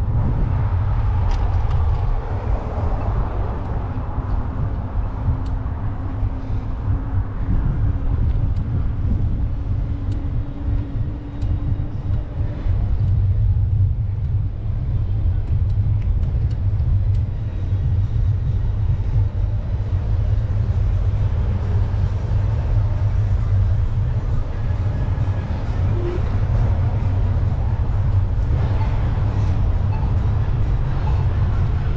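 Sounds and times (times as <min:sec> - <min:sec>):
faint hum: 0:00.0 - 0:31.9
low rumble: 0:00.0 - 0:31.9.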